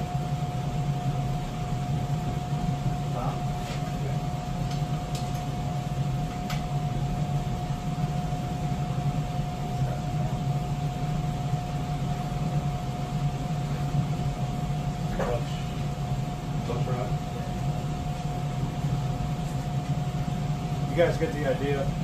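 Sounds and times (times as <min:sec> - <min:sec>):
machine hum with high tone: 0:00.0 - 0:22.0.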